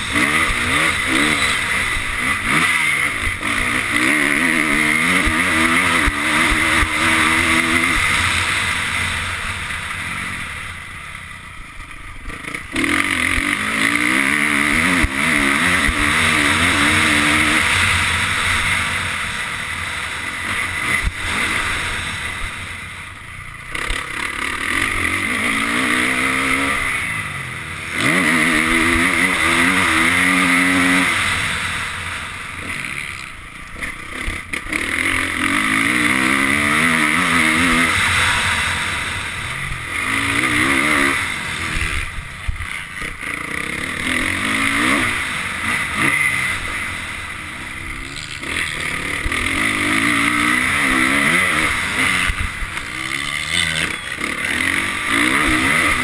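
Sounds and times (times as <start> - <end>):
motorcycle engine revving: 0.0 - 56.0
wind and track noise: 0.0 - 56.0.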